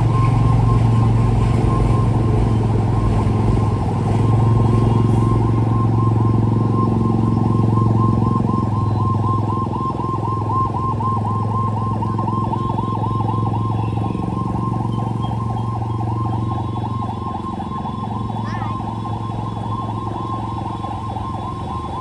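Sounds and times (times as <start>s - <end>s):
vehicle engine running with warble: 0.0s - 22.0s.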